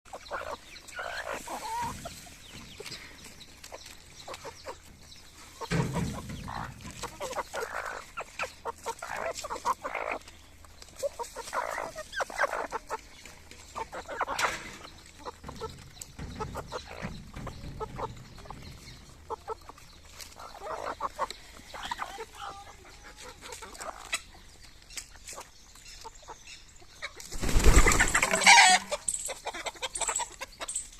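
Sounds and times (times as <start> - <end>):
chickens clucking: 0.1 - 30.9.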